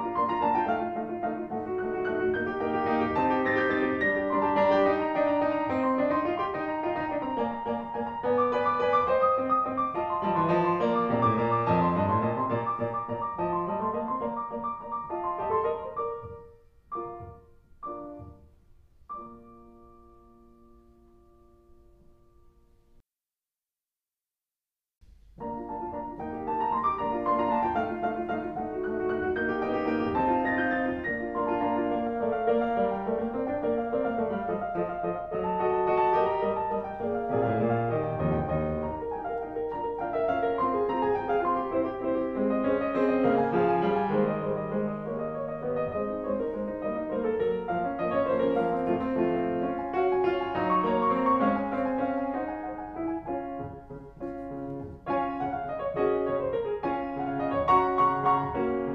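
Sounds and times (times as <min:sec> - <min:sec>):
piano music: 0:00.0 - 0:23.0, 0:25.2 - 0:58.9.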